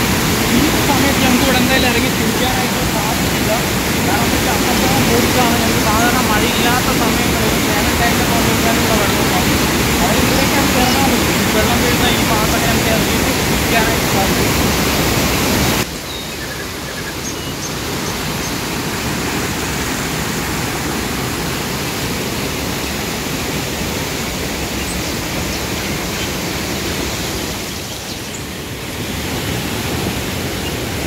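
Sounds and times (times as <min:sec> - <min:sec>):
waterfall rushing over rocks: 0:00.0 - 0:31.0.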